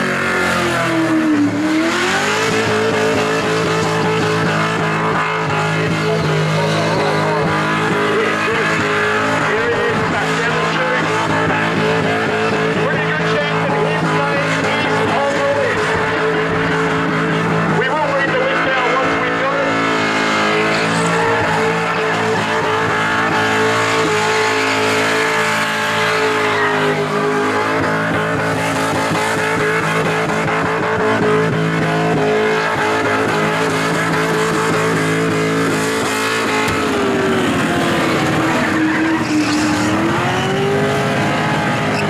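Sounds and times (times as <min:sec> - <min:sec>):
car engine at high revs: 0:00.0 - 0:42.0
tyres spinning and squealing: 0:00.1 - 0:42.0.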